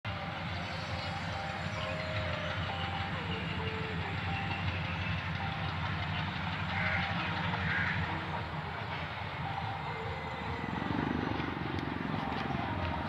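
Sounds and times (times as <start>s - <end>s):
diesel locomotive engine rumble: 0.0s - 13.0s
wheels on rails: 0.1s - 13.0s.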